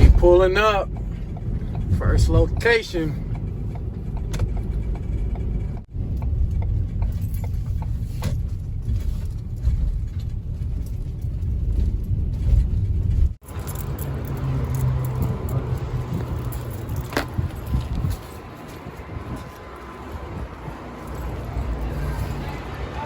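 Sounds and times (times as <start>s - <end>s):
car rumble from inside: 0.0s - 23.0s.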